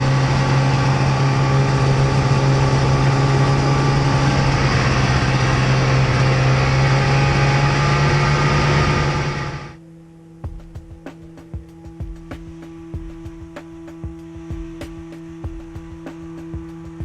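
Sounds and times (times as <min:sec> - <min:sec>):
motor humming steadily: 0:00.0 - 0:17.0.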